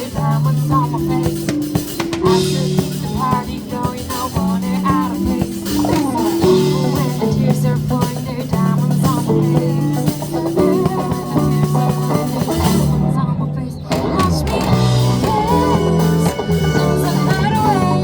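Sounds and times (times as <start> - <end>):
drum kit: 0.0 - 13.2, 13.9 - 18.0
bass: 0.0 - 18.0
guitar: 0.0 - 18.0
person singing: 0.0 - 18.0.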